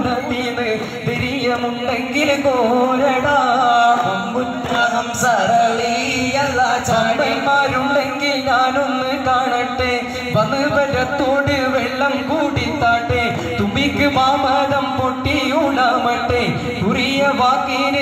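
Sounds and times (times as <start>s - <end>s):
person singing devotional song: 0.0s - 18.0s.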